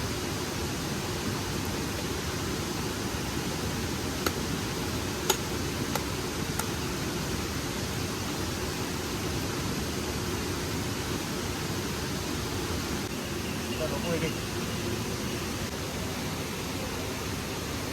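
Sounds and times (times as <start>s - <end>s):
stream water flowing: 0.0s - 17.9s.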